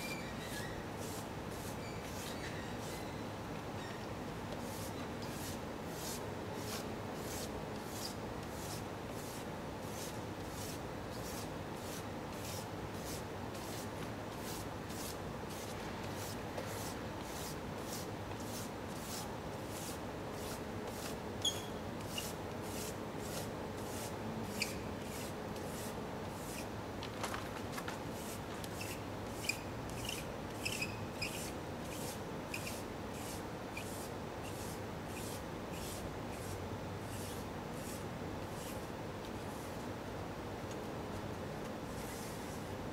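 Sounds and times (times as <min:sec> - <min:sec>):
scratchy rubbing strokes on paper: 0:00.4 - 0:03.1, 0:04.6 - 0:26.7, 0:28.1 - 0:39.9, 0:41.9 - 0:42.7.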